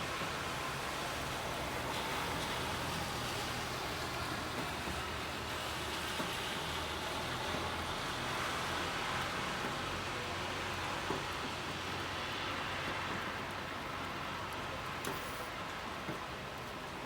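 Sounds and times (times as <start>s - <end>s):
car tyres hissing on wet road: 0.0s - 17.0s
rain falling on street: 0.0s - 17.0s.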